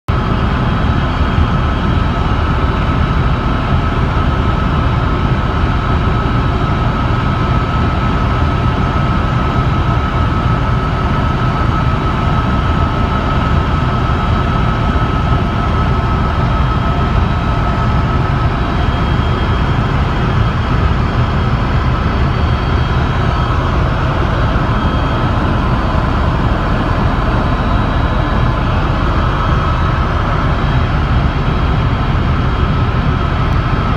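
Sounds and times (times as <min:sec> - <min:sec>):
helicopter rotor and turbine rumble: 0:00.1 - 0:33.9
high whine: 0:00.1 - 0:33.9.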